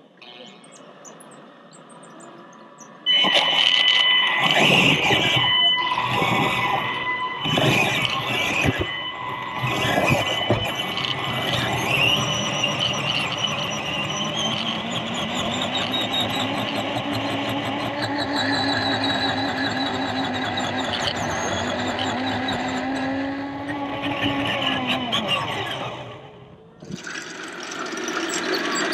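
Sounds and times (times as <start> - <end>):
toy car motor and gear whine: 1.2 - 28.9.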